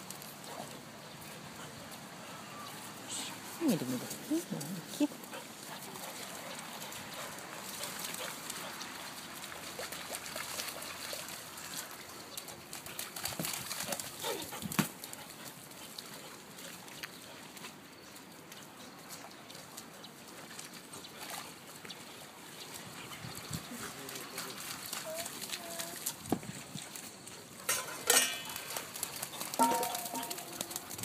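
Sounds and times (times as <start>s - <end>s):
dogs splashing through puddle: 0.0s - 31.0s.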